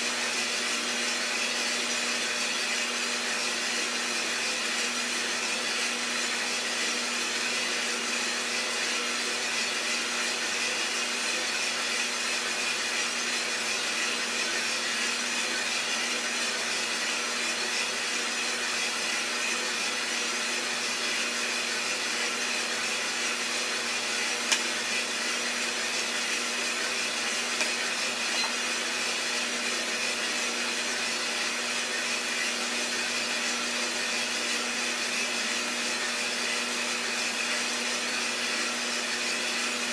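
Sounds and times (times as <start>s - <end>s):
coffee roaster fan and motor: 0.0s - 39.9s.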